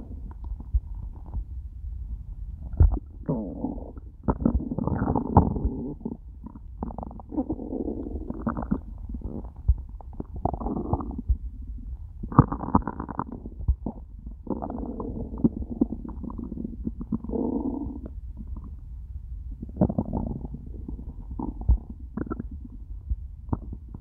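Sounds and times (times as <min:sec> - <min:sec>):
stomach growling gurgles: 0:00.0 - 0:01.6, 0:02.5 - 0:18.9, 0:19.5 - 0:24.0.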